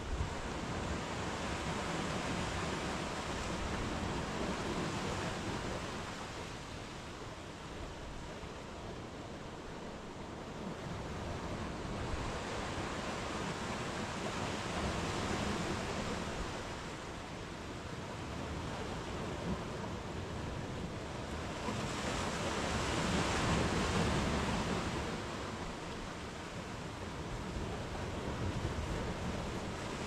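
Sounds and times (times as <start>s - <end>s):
waves washing up a beach: 0.0s - 30.0s.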